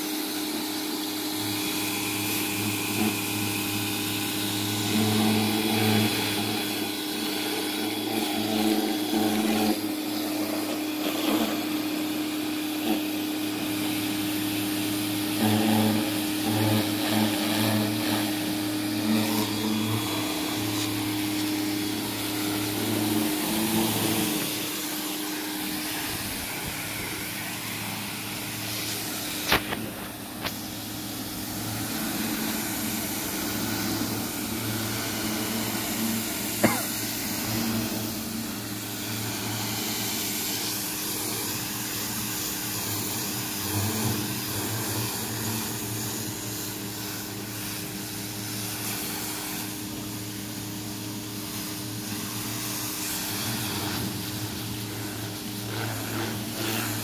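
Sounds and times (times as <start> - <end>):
pressure washer humming: 0.0 - 57.0
water jet hissing against wall: 0.0 - 57.0.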